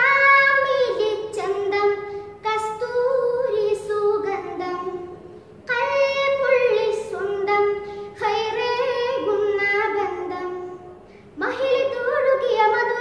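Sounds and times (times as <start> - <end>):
boy singing devotional song: 0.0 - 13.0.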